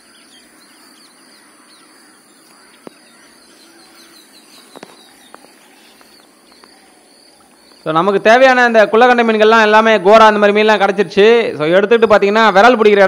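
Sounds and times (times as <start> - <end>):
birds chirping: 0.0 - 13.0
steady high-pitched hiss: 0.0 - 13.0.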